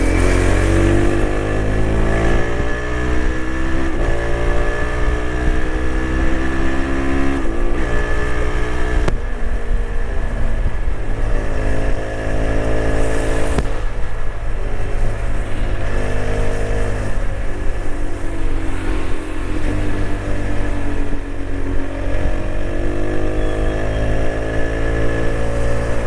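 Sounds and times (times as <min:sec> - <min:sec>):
motorcycle engine accelerating: 0:00.0 - 0:26.0
wind rush: 0:00.0 - 0:26.0.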